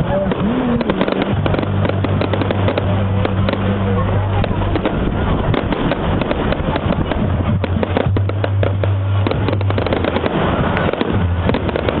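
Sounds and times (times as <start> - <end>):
fireworks bangs and crackles: 0.0 - 12.0
low hum: 0.0 - 12.0.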